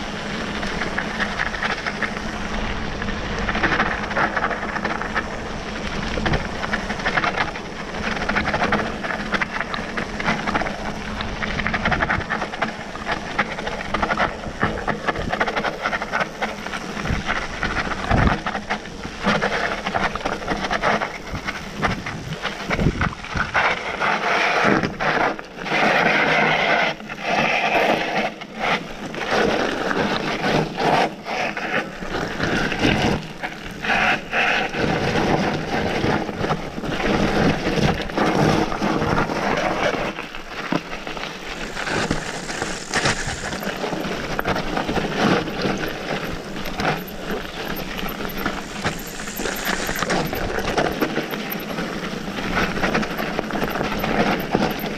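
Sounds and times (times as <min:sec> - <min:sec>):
bike rattling over bumps: 0:00.0 - 0:54.9.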